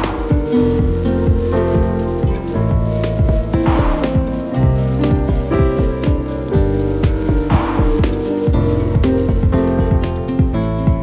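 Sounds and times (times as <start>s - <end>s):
held notes: 0.0s - 11.0s
steady drum beat: 0.0s - 11.0s.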